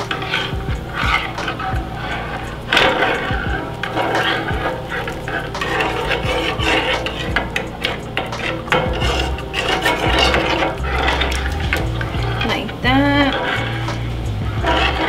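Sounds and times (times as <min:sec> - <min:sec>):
metal spoon stirring a saucepan: 0:00.0 - 0:15.0.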